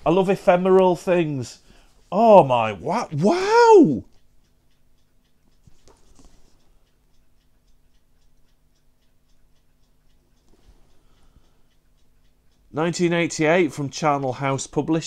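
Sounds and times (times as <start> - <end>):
faint steady ticking: 0.0 - 15.0.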